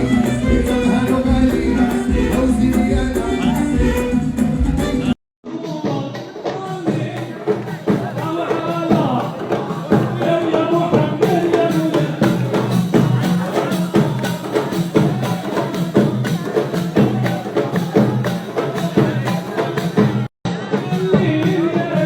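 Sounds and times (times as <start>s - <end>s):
hand drums and tambourine: 0.0s - 22.0s.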